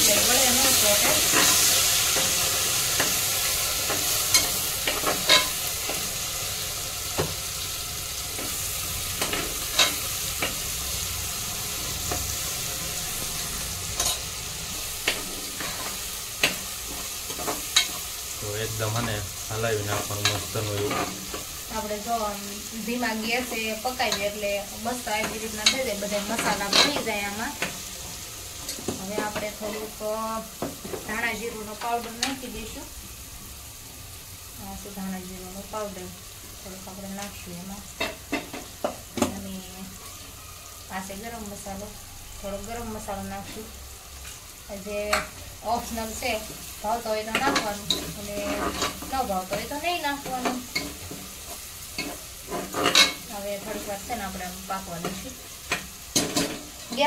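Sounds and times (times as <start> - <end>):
oil sizzling in a pan: 0.0 - 57.0.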